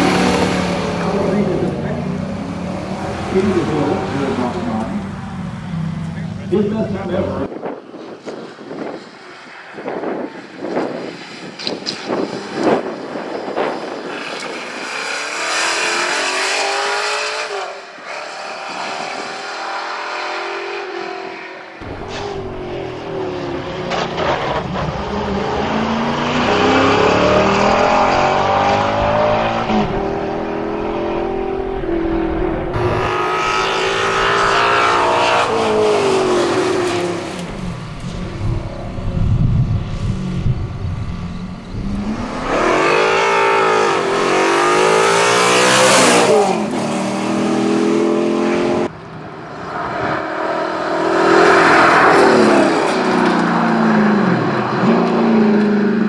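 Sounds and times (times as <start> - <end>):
race car engine revving: 0.0 - 7.5, 11.6 - 56.0.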